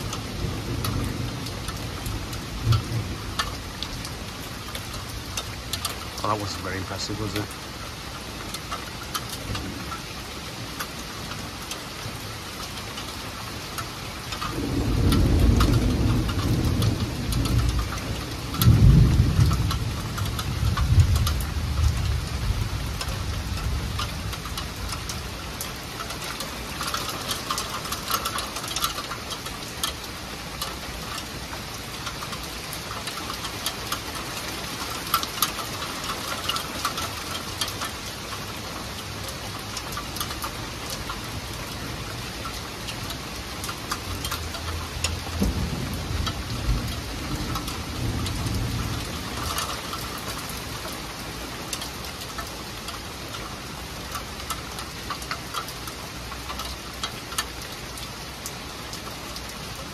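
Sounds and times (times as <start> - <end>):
rain on trees and wooden deck: 0.0 - 59.9.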